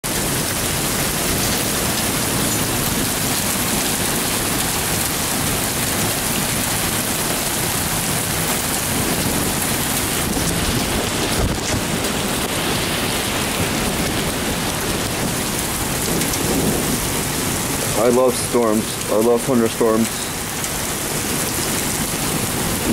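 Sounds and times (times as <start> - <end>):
heavy rain pouring: 0.0 - 22.9.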